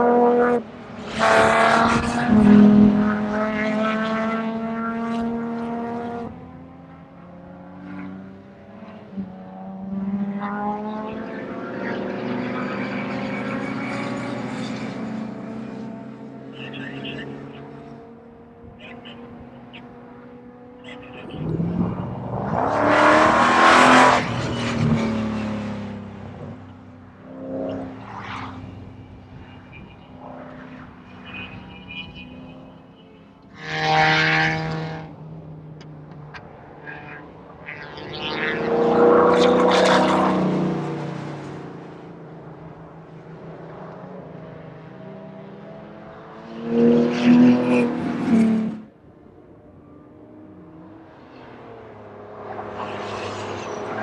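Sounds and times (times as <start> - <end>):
race cars passing by: 0.0 - 54.0.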